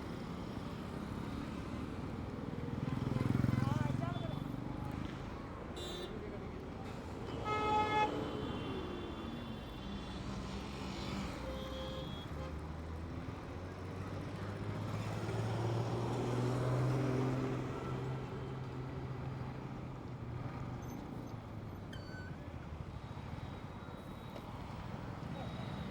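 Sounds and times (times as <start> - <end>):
road traffic noise: 0.0 - 25.9.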